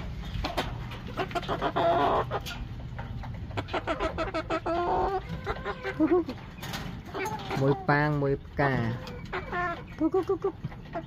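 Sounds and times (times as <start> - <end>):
roosters clucking: 0.0 - 11.0.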